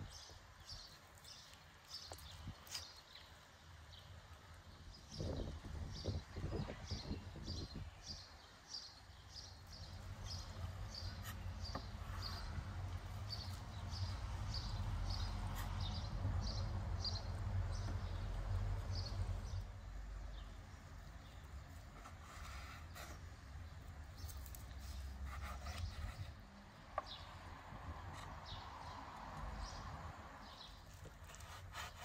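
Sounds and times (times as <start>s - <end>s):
bird chirping: 0.0s - 26.4s.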